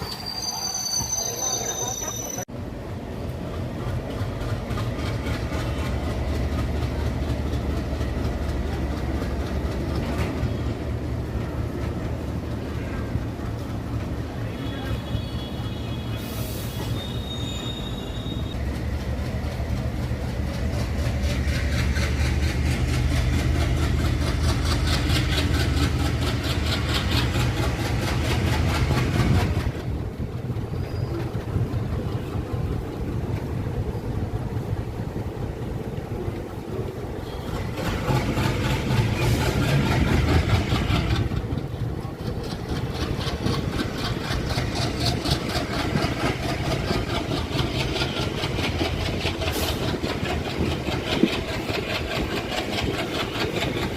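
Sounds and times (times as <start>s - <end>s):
train rumbling and clattering on rails: 0.0s - 53.9s.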